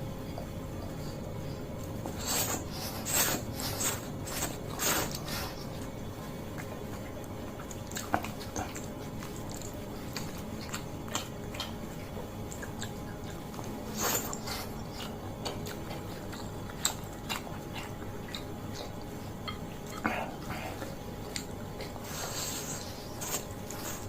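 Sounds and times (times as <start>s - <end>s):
chewing and biting noodles: 1.4s - 24.0s.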